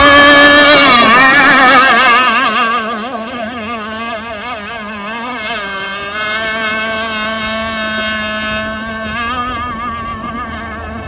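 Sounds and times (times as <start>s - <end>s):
toy boat motor whining: 0.0s - 11.0s.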